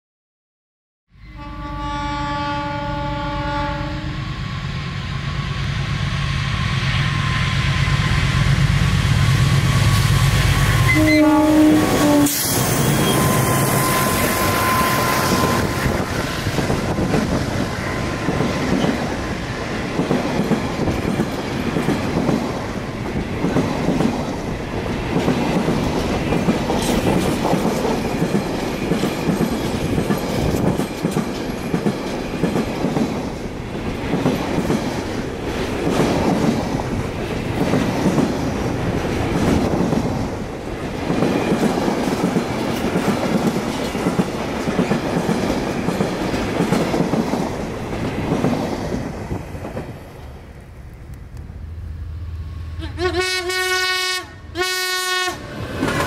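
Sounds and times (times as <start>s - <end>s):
freight train wheels rumbling on rails: 2.6s - 56.0s.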